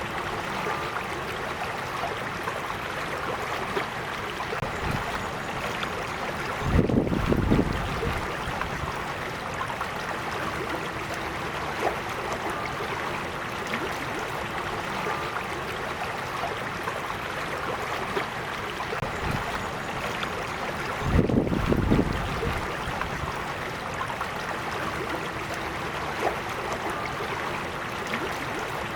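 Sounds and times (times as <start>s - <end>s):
creek babbling: 0.0s - 28.9s.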